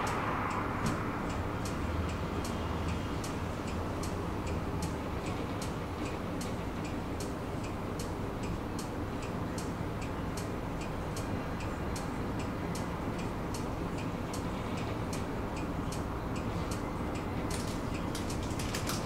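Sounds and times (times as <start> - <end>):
regular ticking clicks: 0.0 - 19.0
tram humming: 0.0 - 19.0.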